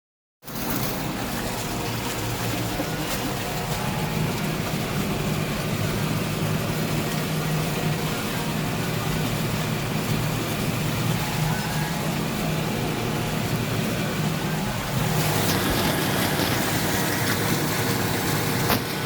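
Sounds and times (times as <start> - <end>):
tractor engine running: 0.4 - 19.0.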